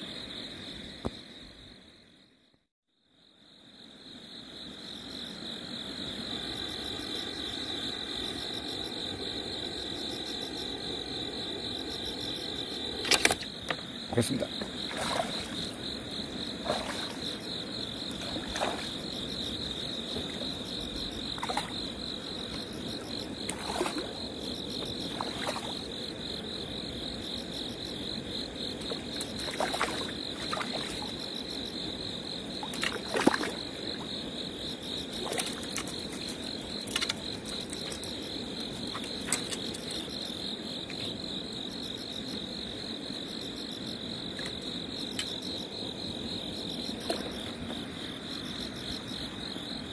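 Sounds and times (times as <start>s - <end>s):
crickets trilling: 0.0s - 2.4s, 3.0s - 49.9s
low insect chorus: 0.0s - 49.9s.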